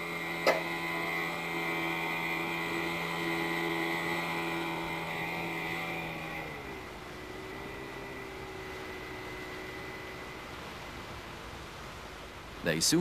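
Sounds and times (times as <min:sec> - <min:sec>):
outboard engine running: 0:00.0 - 0:12.6.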